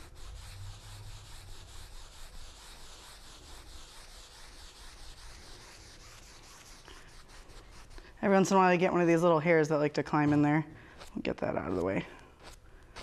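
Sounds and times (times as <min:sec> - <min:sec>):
paint brush swishing on canvas: 0:00.0 - 0:13.0.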